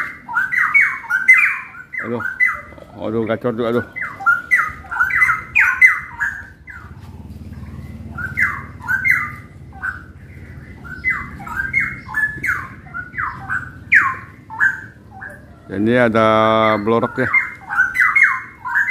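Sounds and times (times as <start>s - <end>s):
caged songbirds singing: 0.0s - 18.9s.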